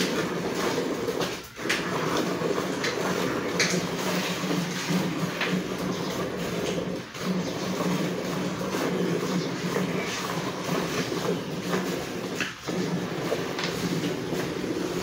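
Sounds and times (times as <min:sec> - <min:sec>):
milk squirting into metal bucket: 0:00.0 - 0:15.0.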